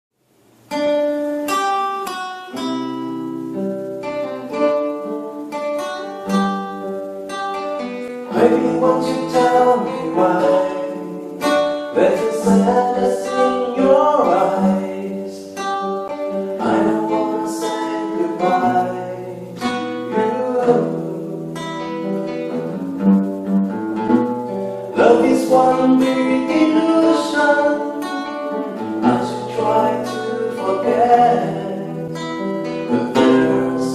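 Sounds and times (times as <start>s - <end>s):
acoustic guitar pop ballad: 0.6s - 33.9s.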